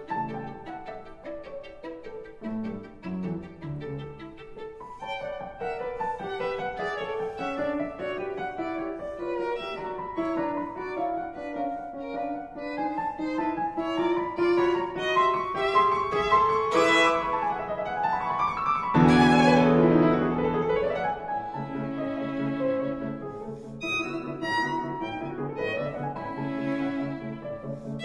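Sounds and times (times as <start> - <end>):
violin melody: 0.0 - 28.0.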